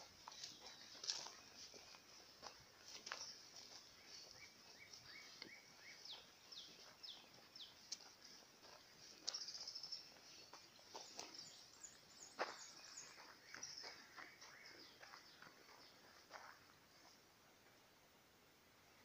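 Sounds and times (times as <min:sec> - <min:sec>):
birds chirping: 0:00.0 - 0:17.3.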